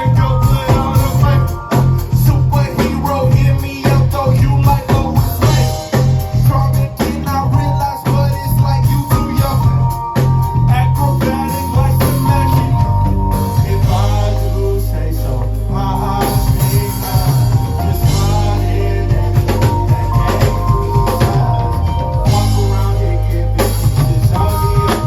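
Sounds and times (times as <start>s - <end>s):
live band music: 0.0s - 25.0s
person singing: 0.0s - 25.0s.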